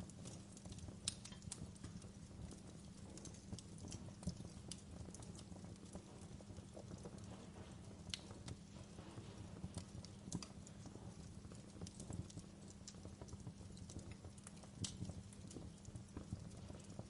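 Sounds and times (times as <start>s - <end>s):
fire crackling and popping: 0.0s - 17.0s
fire low rumble: 0.0s - 17.0s.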